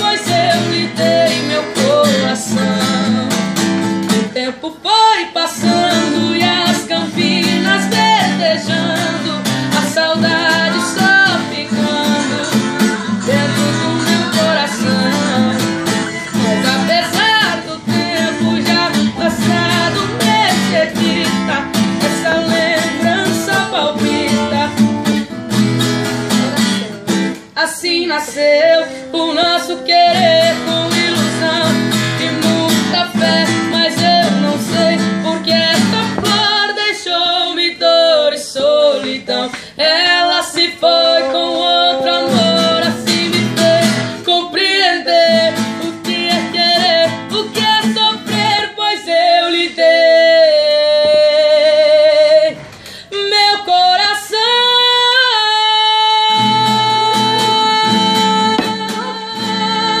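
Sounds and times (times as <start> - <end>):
acoustic guitar strumming: 0.0 - 60.0
woman singing: 0.0 - 60.0.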